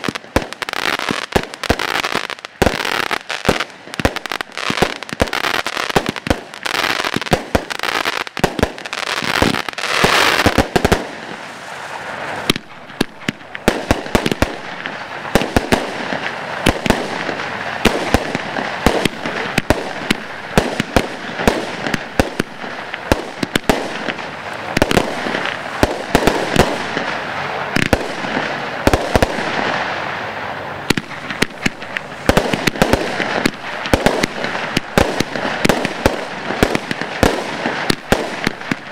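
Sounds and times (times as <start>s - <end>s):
fireworks barrage of shots: 0.0s - 38.9s
rushing hiss of fireworks: 0.0s - 38.9s.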